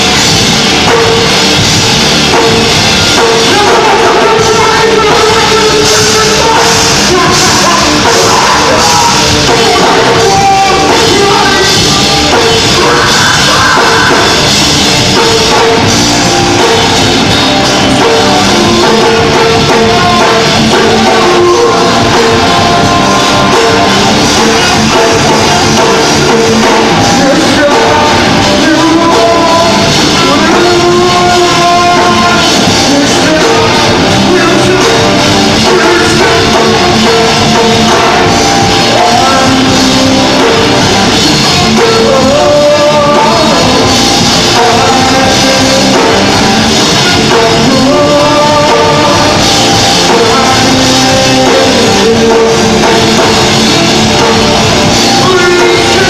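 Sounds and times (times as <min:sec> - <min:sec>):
drum kit: 0:00.0 - 0:56.0
rock band playing: 0:00.0 - 0:56.0
person singing: 0:02.3 - 0:56.0.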